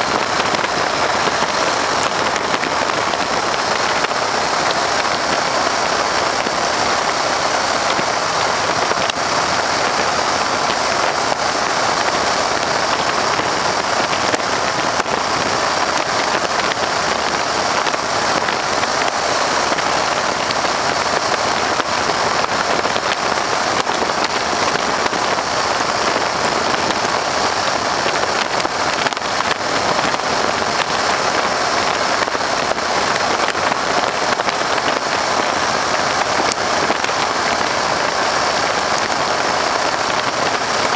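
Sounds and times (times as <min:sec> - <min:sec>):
plane engine drone: 0:00.0 - 0:40.9.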